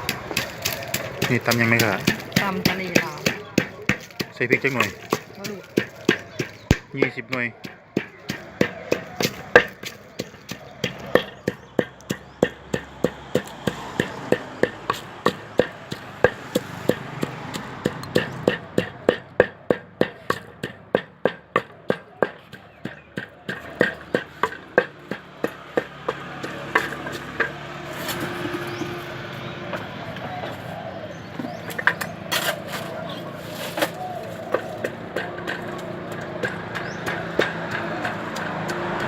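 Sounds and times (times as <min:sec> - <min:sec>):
pestle pounding in a mortar: 0:00.0 - 0:39.0.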